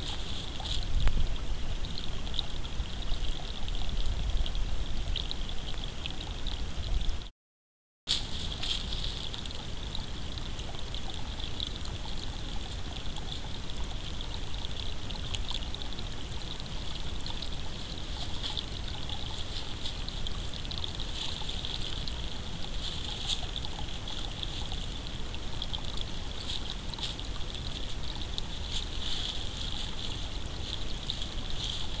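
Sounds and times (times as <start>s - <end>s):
faint irregular ticks: 0.0s - 7.2s, 8.1s - 32.0s
steady microphone hiss: 0.0s - 7.3s, 8.1s - 32.0s.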